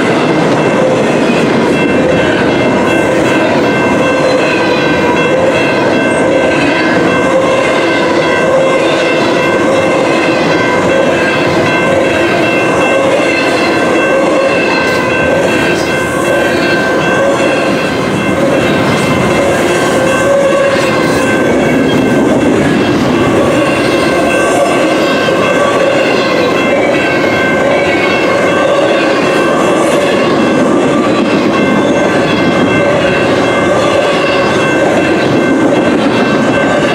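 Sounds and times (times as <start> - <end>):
freight train rolling past: 0.0 - 36.9.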